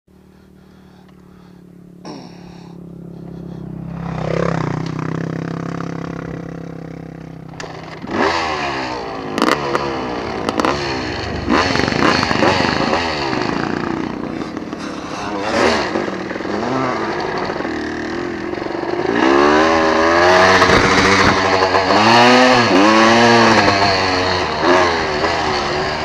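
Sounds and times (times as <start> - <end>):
off-road vehicle engine passing: 0.2 - 26.0
engine revving up and down: 0.3 - 26.0.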